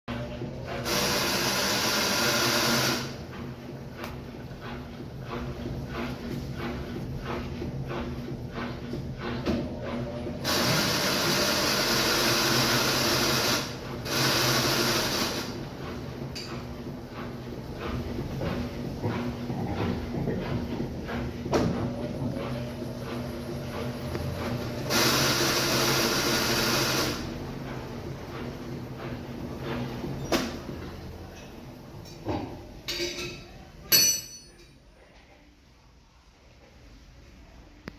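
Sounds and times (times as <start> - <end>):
washing machine humming: 0.1 - 37.9.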